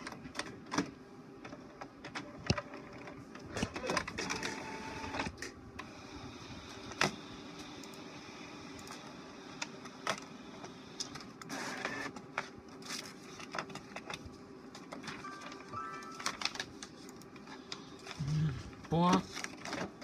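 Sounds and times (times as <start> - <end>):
printer whirring and clicking: 0.0 - 20.0.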